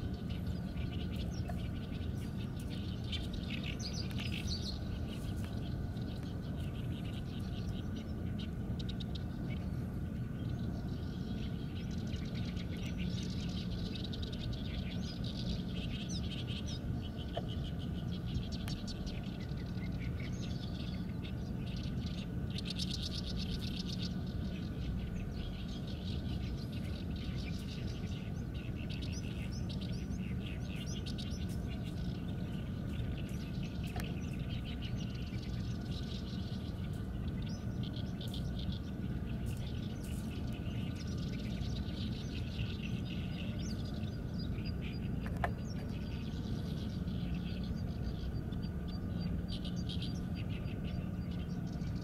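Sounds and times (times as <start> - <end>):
low background rumble: 0.0 - 52.0
small birds chirping and trilling: 0.0 - 52.0.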